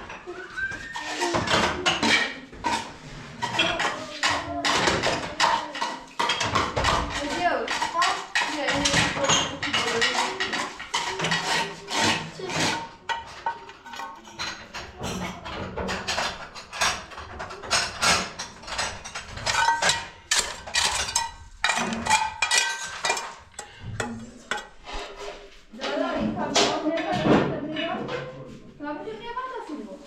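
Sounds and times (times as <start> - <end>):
kitchen items clattering: 0.0 - 30.0.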